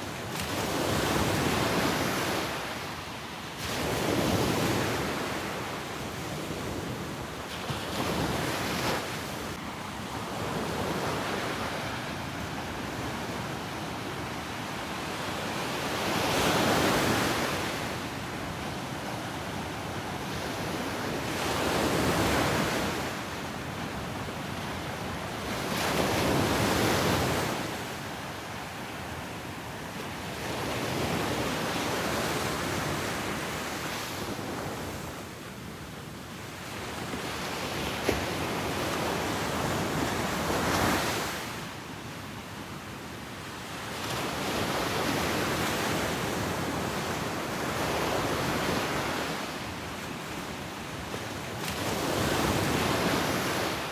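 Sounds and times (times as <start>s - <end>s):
waves breaking on a beach: 0.0s - 53.9s.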